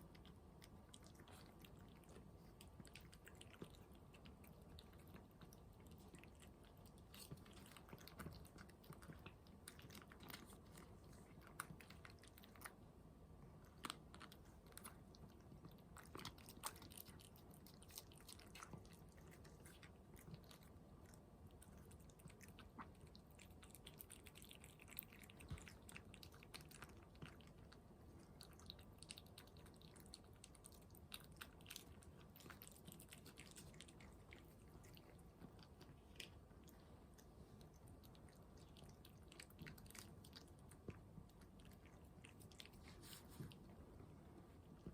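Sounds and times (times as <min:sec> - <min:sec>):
cat crunching food: 0:00.0 - 0:44.9.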